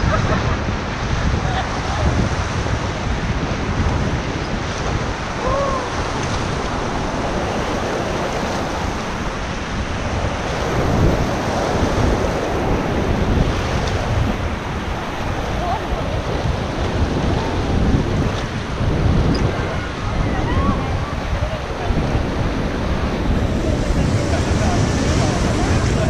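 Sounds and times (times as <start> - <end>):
whitewater rapids rushing: 0.0 - 26.0
wind buffeting microphone: 0.0 - 26.0.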